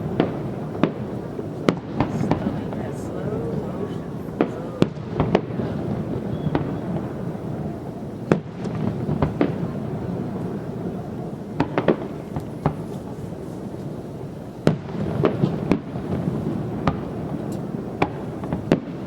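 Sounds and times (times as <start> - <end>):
continuous low rumble: 0.0 - 19.0.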